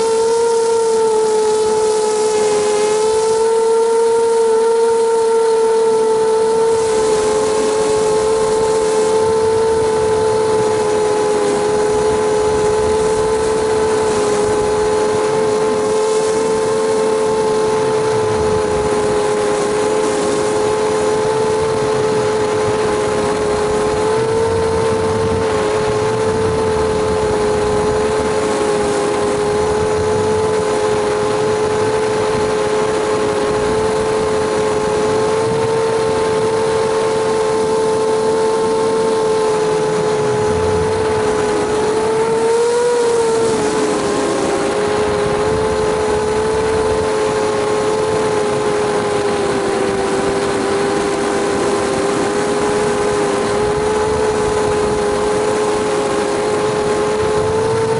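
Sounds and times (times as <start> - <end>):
drone motors whining: 0.0 - 57.9.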